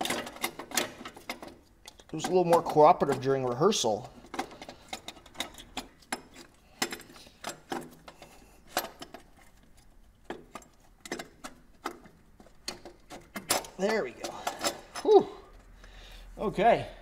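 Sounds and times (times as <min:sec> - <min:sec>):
metal clinks and knocks: 0:00.0 - 0:15.7.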